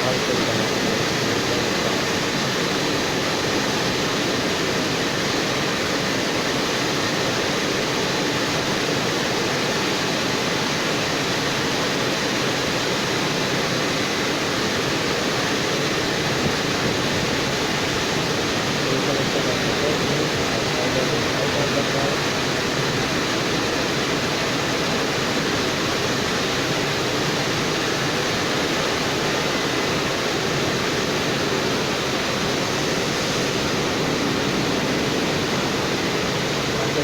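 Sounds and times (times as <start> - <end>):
drying blowers rushing: 0.0 - 37.0.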